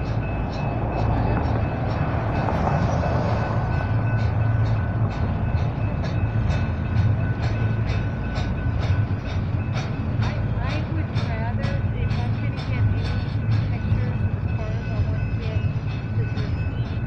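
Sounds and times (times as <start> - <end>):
train rumbling past: 0.0 - 17.0
train wheels clicking: 0.0 - 17.0.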